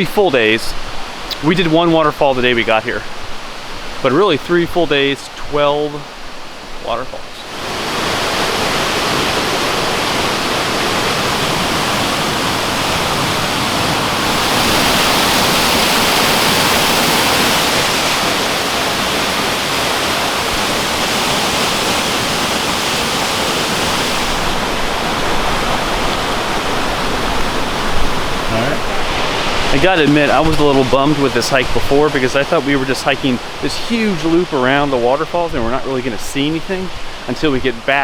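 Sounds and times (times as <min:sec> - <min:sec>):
waterfall rushing into pool: 0:00.0 - 0:38.0.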